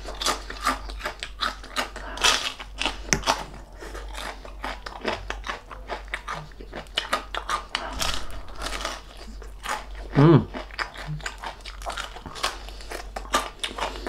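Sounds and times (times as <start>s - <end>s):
chewing crunchy food: 0.0s - 14.0s.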